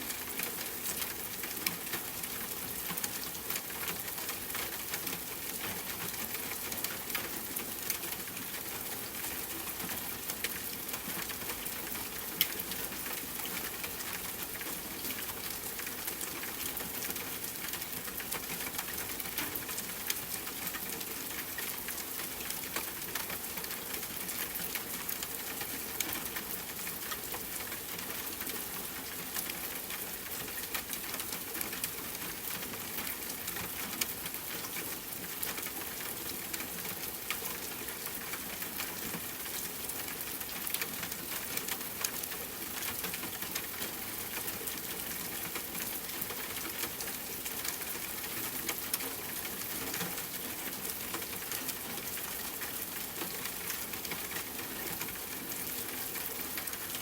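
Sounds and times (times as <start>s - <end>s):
rain on a tent: 0.0s - 57.0s.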